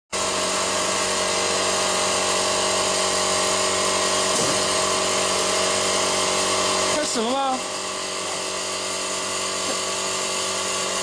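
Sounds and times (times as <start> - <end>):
drilling machine electric whine: 0.2 - 11.0
motor hum: 0.2 - 11.0.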